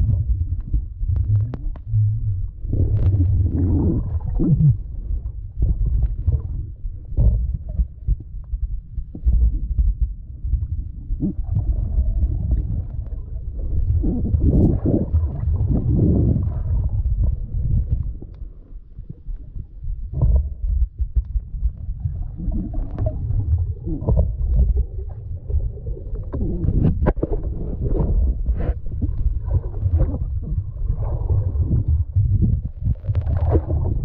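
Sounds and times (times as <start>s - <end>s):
underwater rumbling and thudding: 0.0s - 34.0s.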